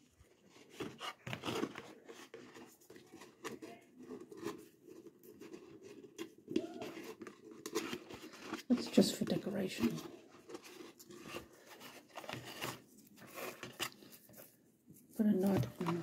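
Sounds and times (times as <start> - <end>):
hands handling plastic pumpkin: 0.0 - 16.0.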